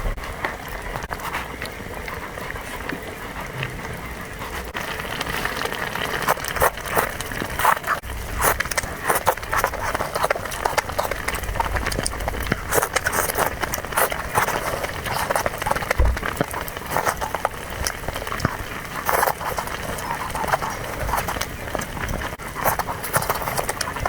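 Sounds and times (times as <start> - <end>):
chewing and mouth smacking: 0.0 - 24.0.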